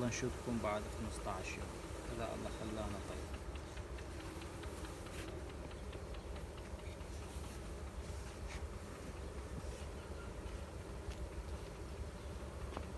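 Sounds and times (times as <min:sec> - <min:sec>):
honeybees buzzing: 0:00.0 - 0:12.9.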